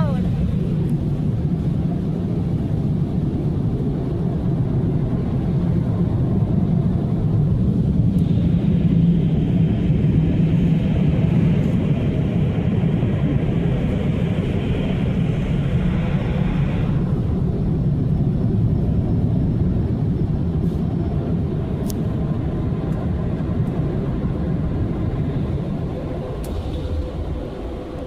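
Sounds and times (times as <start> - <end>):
car wash machinery roaring: 0.0 - 28.0.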